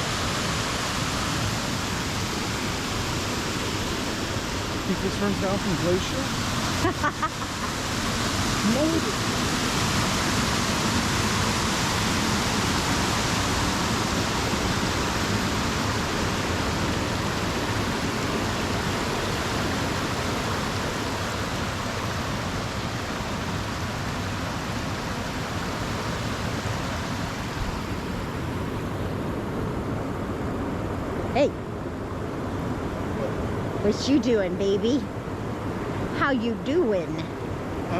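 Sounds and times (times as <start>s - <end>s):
water rushing over waterfall: 0.0s - 37.9s.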